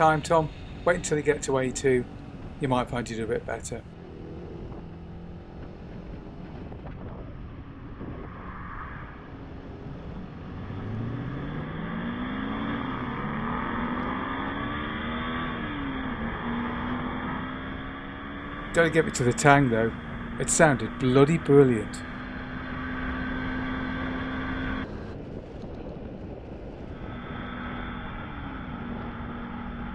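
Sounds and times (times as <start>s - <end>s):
car engine accelerating: 0.0s - 29.9s
wind and road noise: 0.0s - 29.9s.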